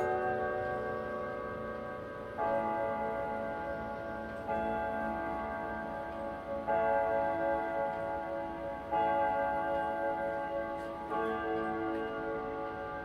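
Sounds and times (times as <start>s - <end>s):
grandfather clock striking: 0.0s - 13.0s.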